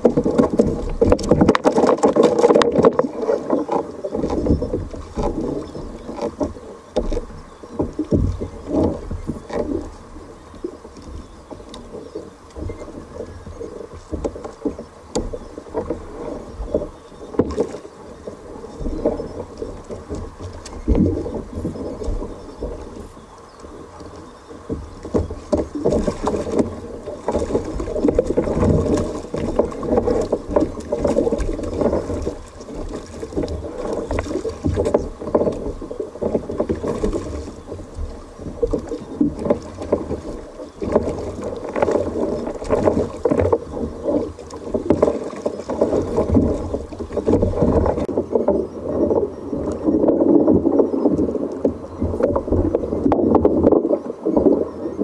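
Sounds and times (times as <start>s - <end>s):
water splashing against kayak hull: 0.0s - 55.0s.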